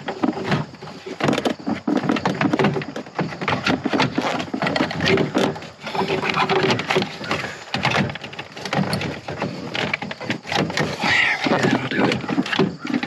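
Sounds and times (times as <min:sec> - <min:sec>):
hard plastic clicking and knocking: 0:00.0 - 0:13.0.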